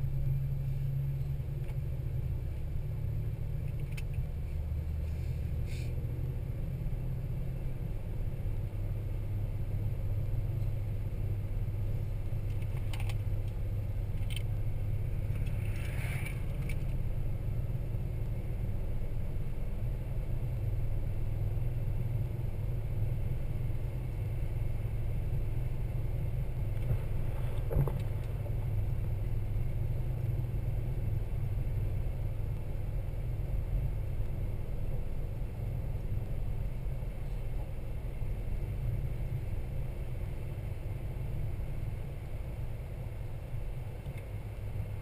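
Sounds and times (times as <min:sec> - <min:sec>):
vehicle engine rumble: 0:00.0 - 0:45.0.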